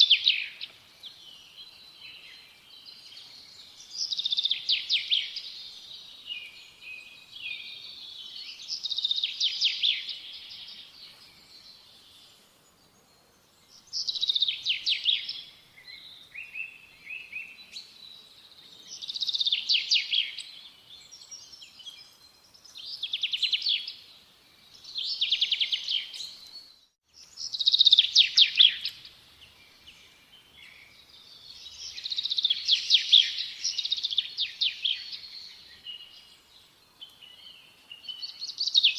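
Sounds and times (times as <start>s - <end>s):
songbird trills and chirps: 0.0s - 38.9s.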